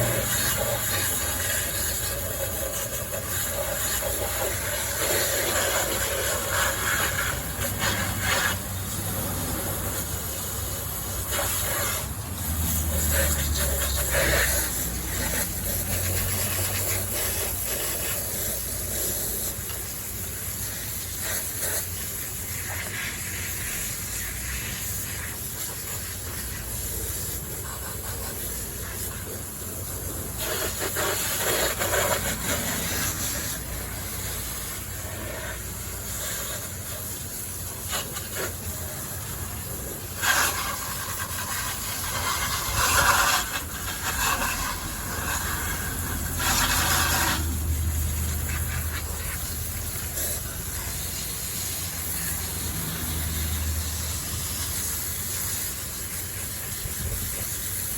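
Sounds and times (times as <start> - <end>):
hissing spray: 0.0 - 57.9.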